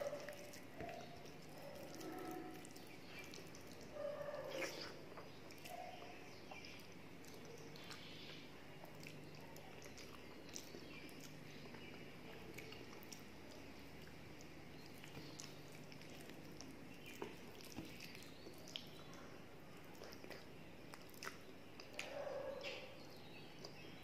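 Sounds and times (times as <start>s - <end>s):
faint chewing with mouth clicks: 0.0s - 24.0s
fingers squishing food: 0.0s - 24.0s.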